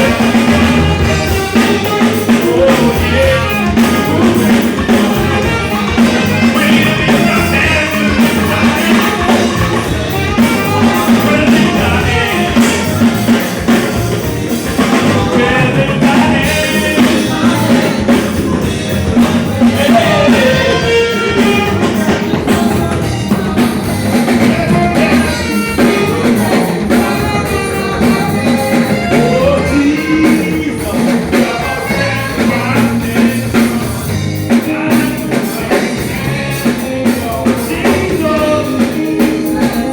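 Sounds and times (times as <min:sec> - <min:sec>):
drum kit: 0:00.0 - 0:39.9
guitar: 0:00.0 - 0:39.9
person singing: 0:00.0 - 0:39.9.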